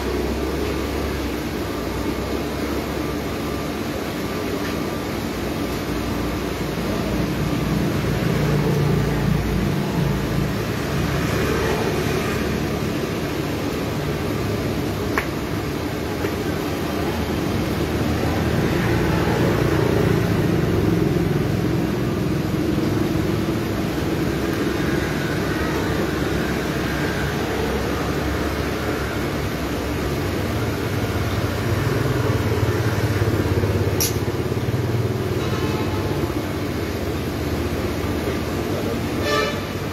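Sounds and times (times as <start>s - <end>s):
street traffic: 0.0s - 39.9s.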